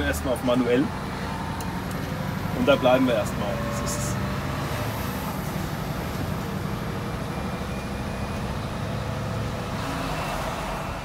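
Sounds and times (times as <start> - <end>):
diesel truck engine running: 0.0 - 11.0
road noise: 0.0 - 11.0.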